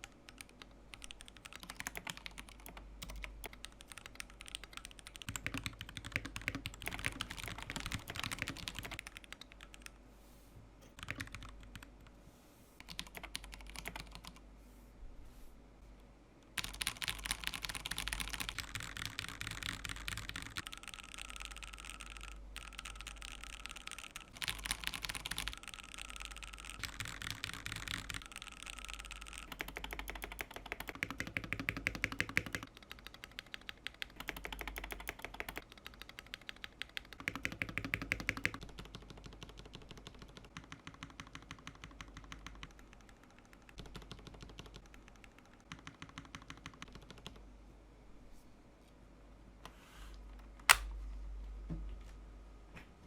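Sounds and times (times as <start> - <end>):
mechanical keyboard typing: 0.0 - 10.0, 10.8 - 12.1, 12.8 - 14.4, 16.6 - 47.4.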